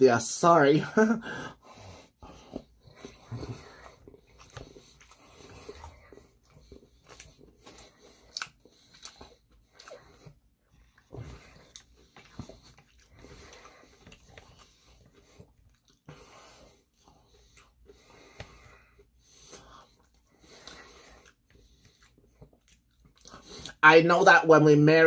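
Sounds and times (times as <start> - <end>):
person chewing with mouth clicks: 2.4 - 23.8.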